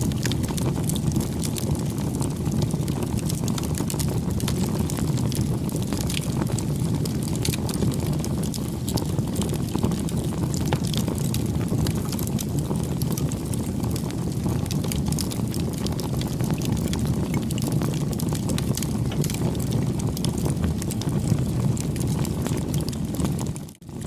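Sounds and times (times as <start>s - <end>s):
burning wood crackling: 0.0s - 24.0s
low rumble of flames: 0.0s - 24.0s.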